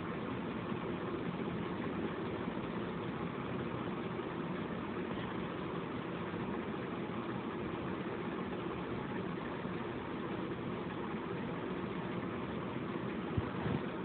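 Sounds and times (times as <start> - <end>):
electric fan whooshing: 0.0 - 14.0.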